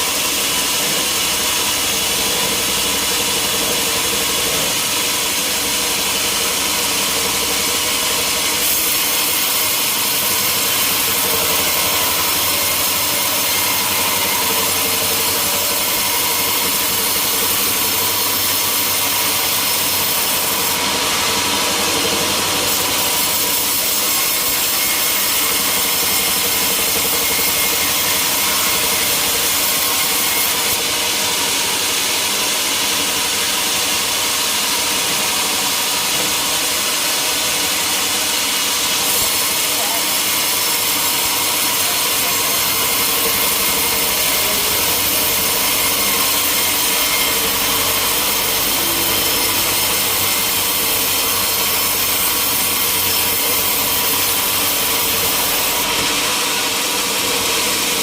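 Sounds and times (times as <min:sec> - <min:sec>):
saw cutting through timber: 0:00.0 - 0:58.0
sawmill machinery running: 0:00.0 - 0:58.0.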